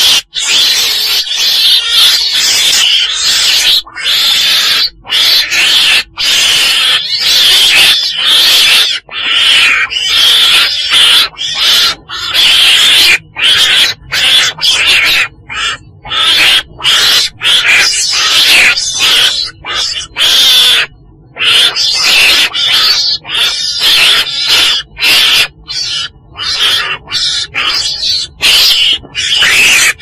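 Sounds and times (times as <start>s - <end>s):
weasel raspy calls: 0.0s - 30.0s.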